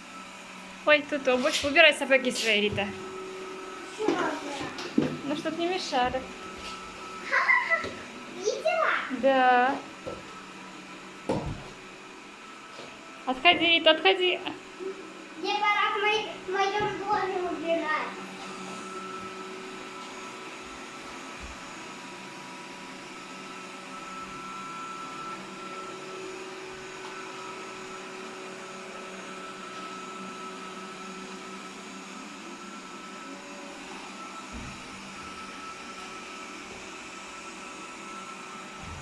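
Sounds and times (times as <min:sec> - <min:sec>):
robot vacuum cleaner humming: 0:00.0 - 0:39.0.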